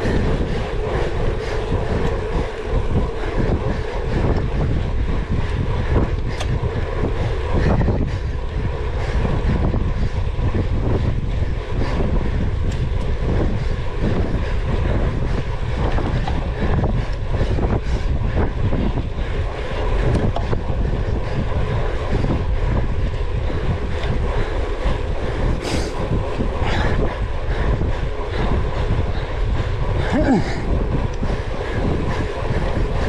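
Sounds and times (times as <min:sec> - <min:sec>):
bike rattling over rough ground: 0:00.0 - 0:33.0
wind buffeting microphone: 0:00.0 - 0:33.0.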